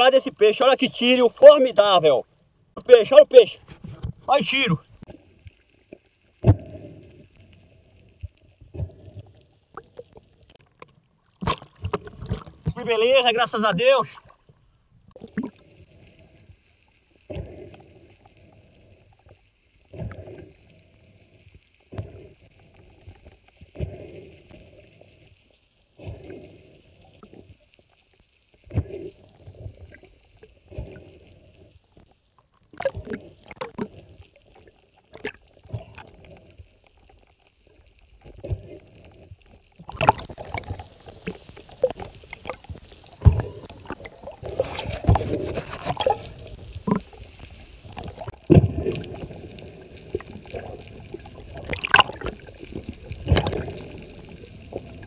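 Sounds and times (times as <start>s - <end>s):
water sloshing and gurgling: 2.7s - 55.0s.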